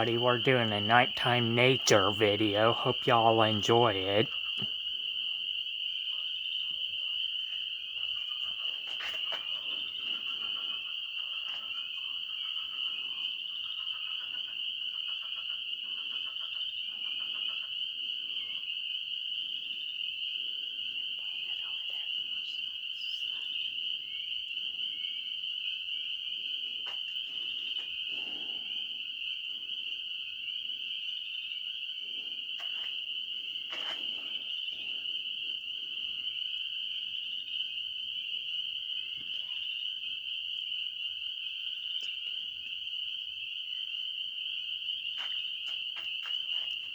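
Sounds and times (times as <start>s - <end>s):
frogs croaking: 0.0s - 46.9s.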